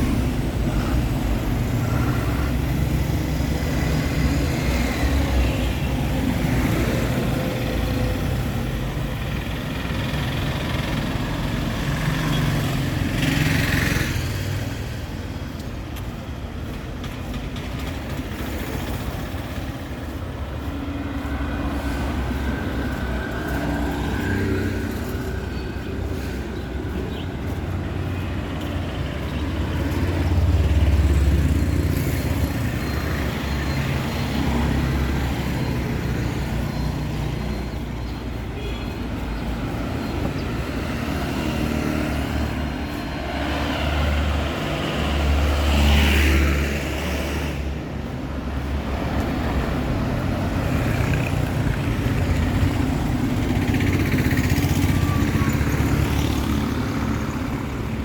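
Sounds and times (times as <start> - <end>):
vehicle engines rumbling past: 0.0 - 58.0.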